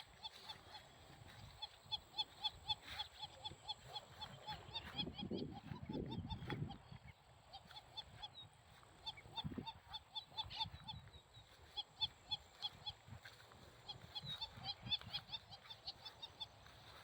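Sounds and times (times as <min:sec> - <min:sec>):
birds honking calls: 0:00.0 - 0:17.0.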